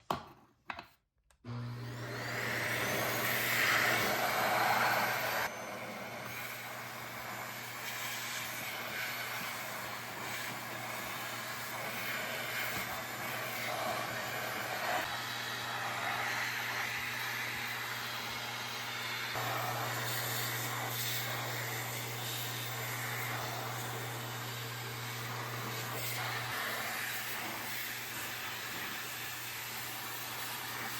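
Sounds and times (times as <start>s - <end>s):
vacuum cleaner running: 1.4s - 30.9s.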